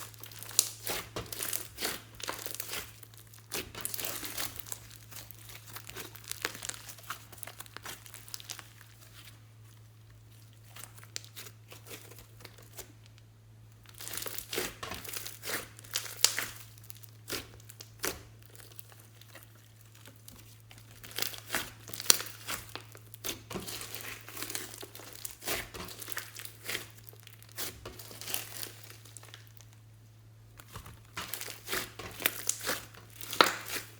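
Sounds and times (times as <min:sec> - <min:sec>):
slime squished by hand: 0:00.0 - 0:13.1, 0:13.8 - 0:29.8, 0:30.6 - 0:33.9.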